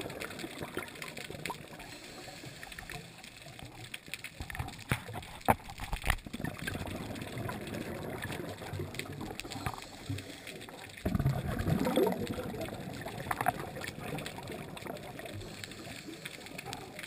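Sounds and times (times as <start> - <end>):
bubbling and gurgling: 0.0 - 17.0
muffled underwater noise: 0.0 - 17.0.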